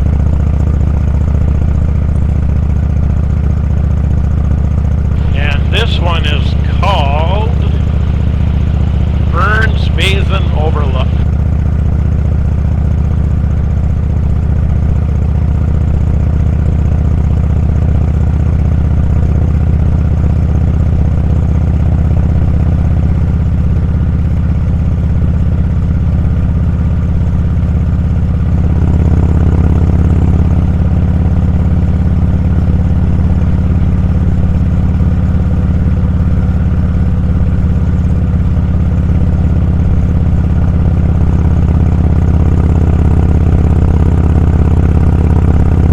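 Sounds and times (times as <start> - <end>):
motorcycle engine drone: 0.0 - 24.5, 25.1 - 45.9.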